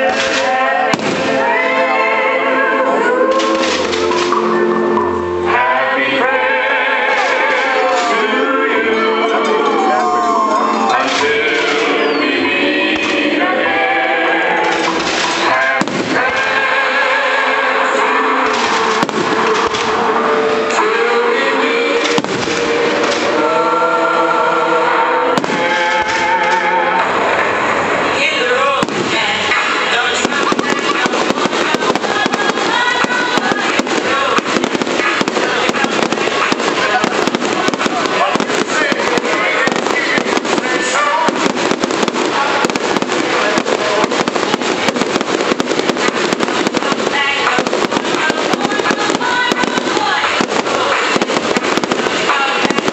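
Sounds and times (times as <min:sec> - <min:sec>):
firework bangs: 0:00.0 - 0:52.9
loud music: 0:00.0 - 0:52.9.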